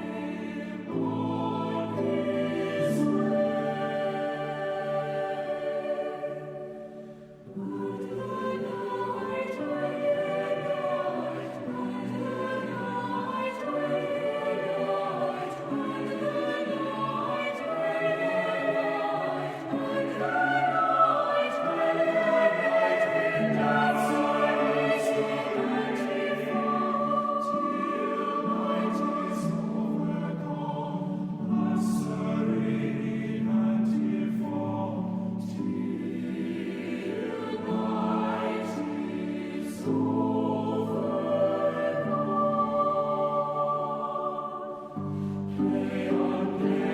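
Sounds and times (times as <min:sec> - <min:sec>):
voices singing held notes: 0:00.0 - 0:46.9.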